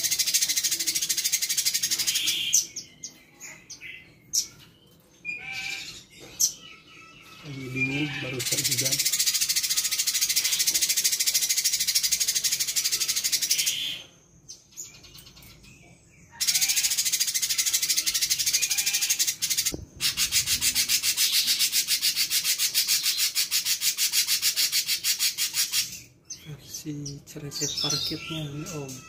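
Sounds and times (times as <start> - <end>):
bird high-pitched chattering twitter: 0.0 - 4.7, 5.3 - 29.0.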